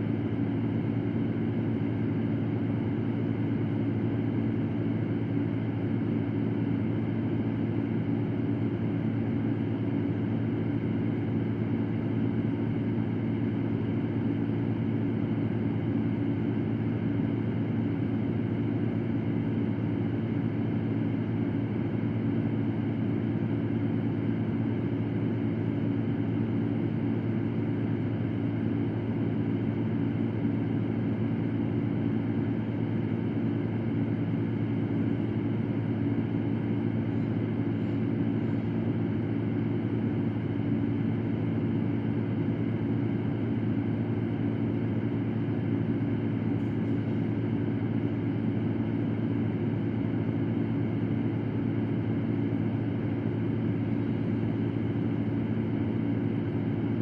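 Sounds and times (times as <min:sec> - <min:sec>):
electric fan whooshing hum: 0:00.0 - 0:57.0.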